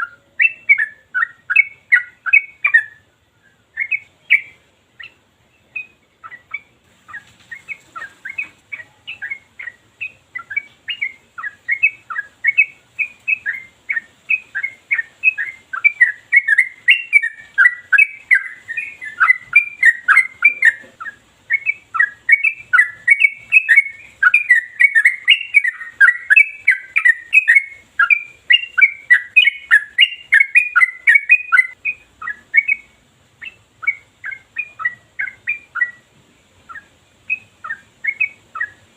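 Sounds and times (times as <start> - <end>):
bird singing chirping phrases: 0.0 - 38.9.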